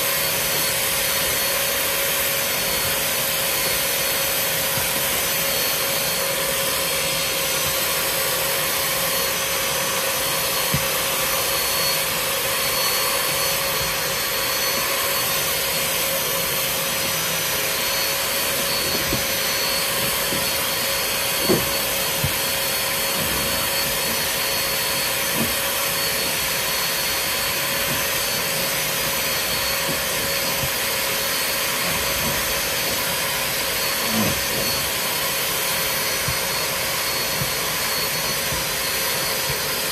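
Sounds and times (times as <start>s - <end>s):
vacuum motor humming with high whine: 0.0s - 39.9s.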